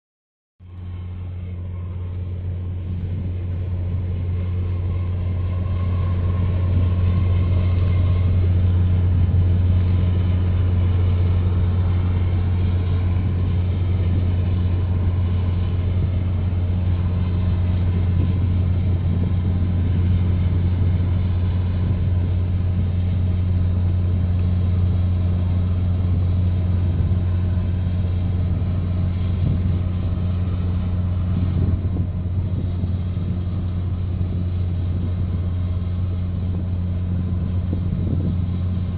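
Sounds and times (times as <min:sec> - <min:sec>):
boat engine droning: 0:00.6 - 0:38.9.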